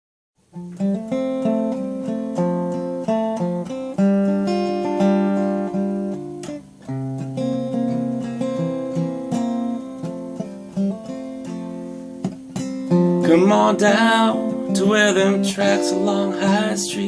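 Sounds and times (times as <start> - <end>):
acoustic guitar strumming chords: 0.4 - 17.0.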